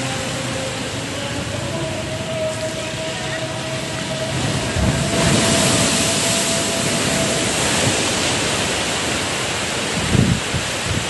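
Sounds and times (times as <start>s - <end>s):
storm waves crashing: 0.0s - 11.0s
water washing across road: 0.0s - 11.0s.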